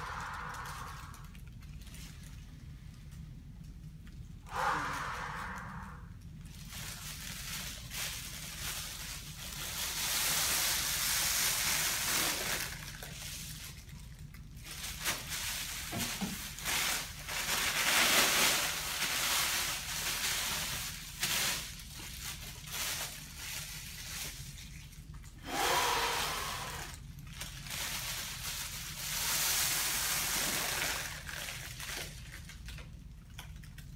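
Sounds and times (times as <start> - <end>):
plastic bag rustling and crinkling: 0.0 - 25.2, 25.8 - 33.9.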